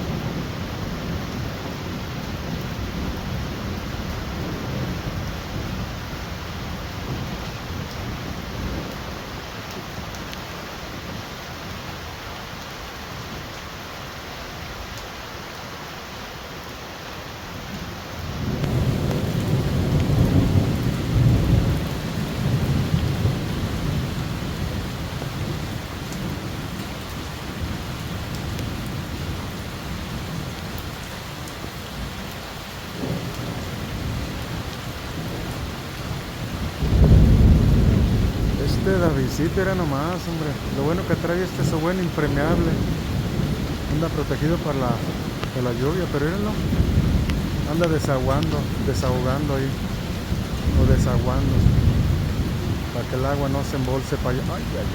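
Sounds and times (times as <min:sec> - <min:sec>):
thunder rumbling: 0:00.0 - 0:09.5, 0:18.3 - 0:54.9
heavy rain falling: 0:00.0 - 0:54.9.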